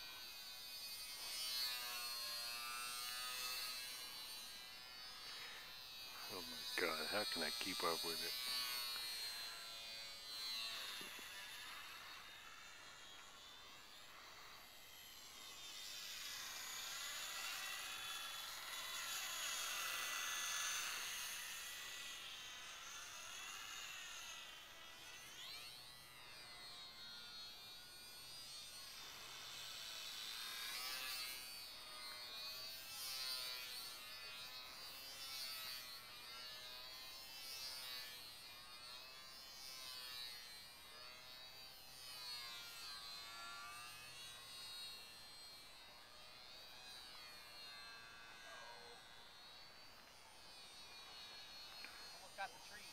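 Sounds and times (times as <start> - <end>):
model plane motor whining: 0.0 - 52.9.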